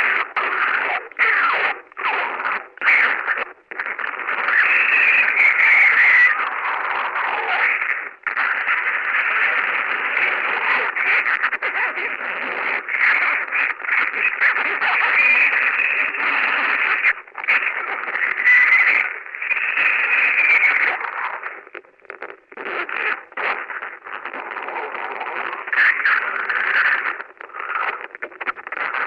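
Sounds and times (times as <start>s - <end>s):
distorted noise rock: 0.0s - 29.0s.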